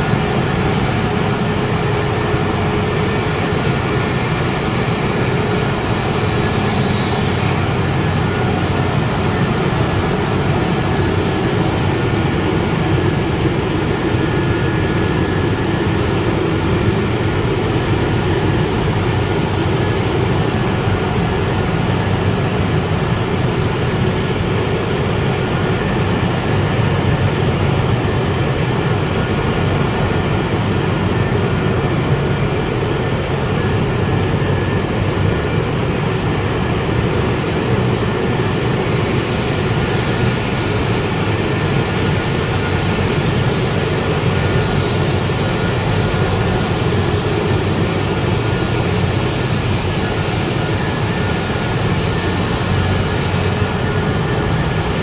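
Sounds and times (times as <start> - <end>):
production line machinery running: 0.0 - 55.0.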